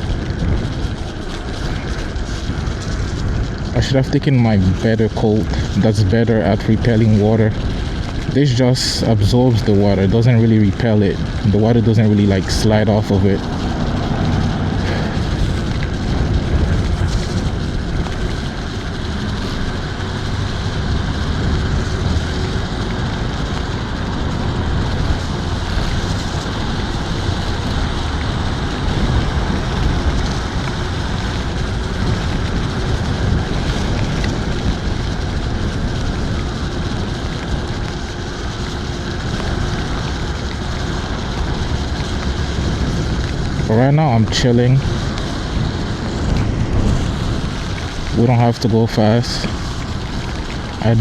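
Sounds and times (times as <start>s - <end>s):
tyres on wet pavement: 0.0s - 51.0s
wind rushing over microphone: 0.0s - 51.0s.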